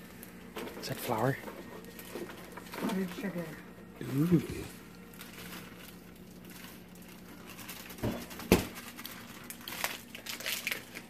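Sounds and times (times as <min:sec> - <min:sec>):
sugar rustling from plastic bag: 0:00.0 - 0:11.0.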